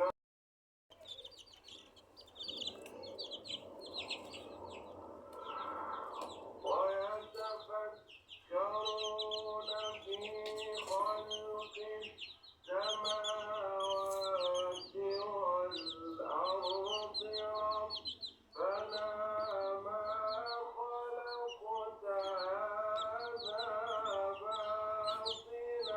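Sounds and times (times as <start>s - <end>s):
chicks peeping: 0.9s - 25.9s.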